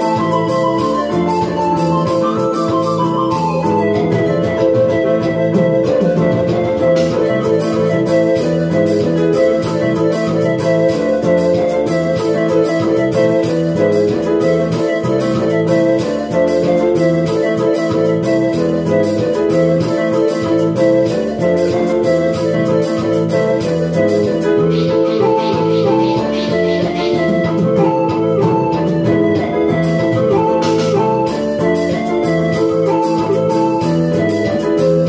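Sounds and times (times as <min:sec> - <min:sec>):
high ticking beat: 0:00.0 - 0:35.0
organ-like keyboard chords: 0:00.0 - 0:35.0.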